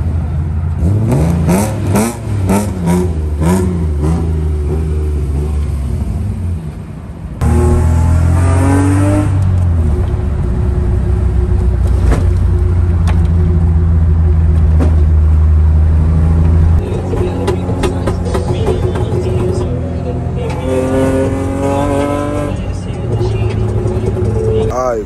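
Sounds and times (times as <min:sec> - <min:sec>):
car engine revving: 0:00.0 - 0:24.7.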